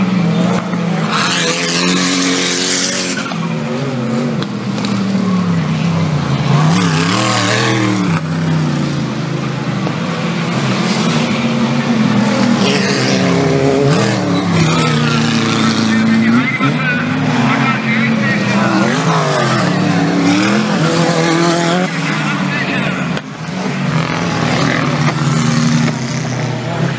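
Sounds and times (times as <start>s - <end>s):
off-road engines revving: 0.0s - 26.9s
tyre and dirt noise: 0.0s - 26.9s.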